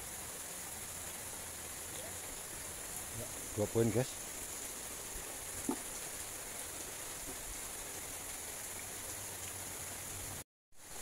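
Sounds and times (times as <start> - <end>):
high hiss: 0.0 - 11.0.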